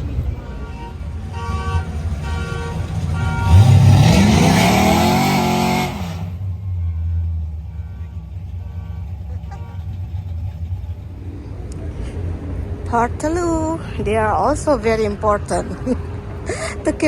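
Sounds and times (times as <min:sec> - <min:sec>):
car engine revving: 0:00.0 - 0:13.8
traffic rumble: 0:00.0 - 0:17.0.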